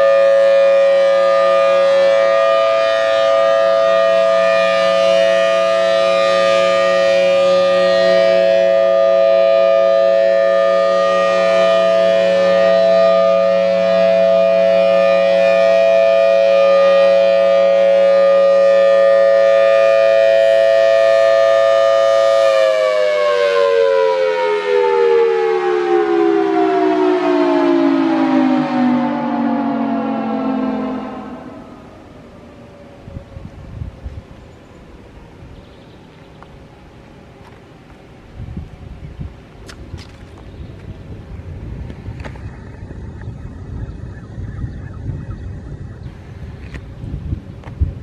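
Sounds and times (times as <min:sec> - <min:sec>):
two-tone warning siren: 0:00.0 - 0:48.0.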